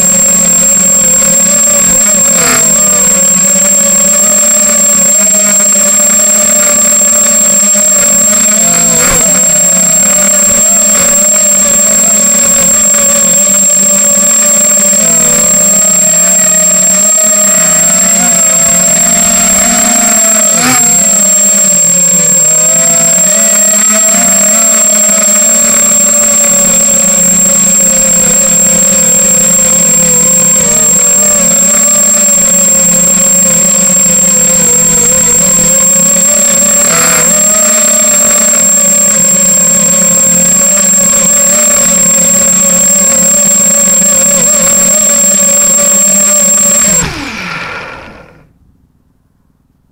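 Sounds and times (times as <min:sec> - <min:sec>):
high-pitched electronic whine: 0:00.0 - 0:48.6
quadcopter motors buzzing: 0:00.0 - 0:48.6.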